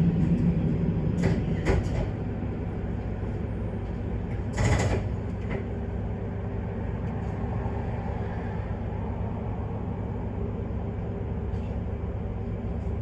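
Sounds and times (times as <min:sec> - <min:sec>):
diesel railcar rumble: 0:00.0 - 0:13.0.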